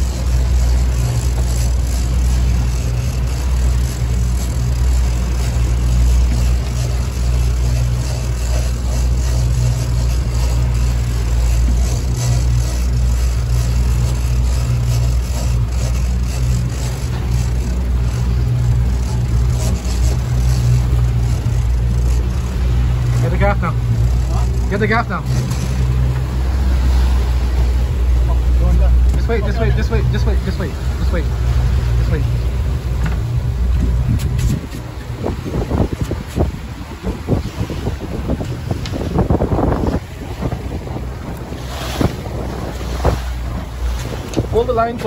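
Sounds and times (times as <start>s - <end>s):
outboard motor running: 0.0s - 45.0s
water rushing: 0.0s - 45.0s.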